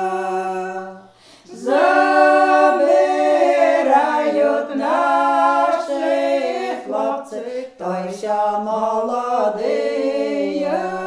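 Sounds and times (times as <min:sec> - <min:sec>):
women singing a cappella: 0:00.0 - 0:11.0.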